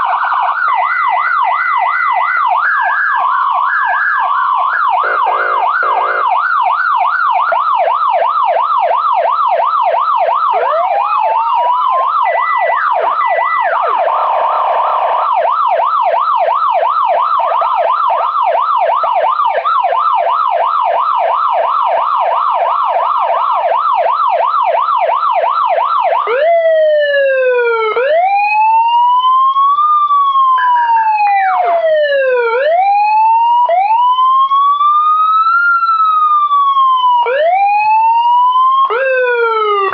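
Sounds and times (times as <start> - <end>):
police siren yelp and wail: 0.0 - 39.9.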